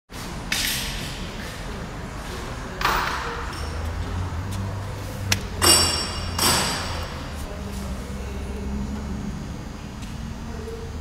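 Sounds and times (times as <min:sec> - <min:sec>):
steady low hum: 0:00.1 - 0:11.0.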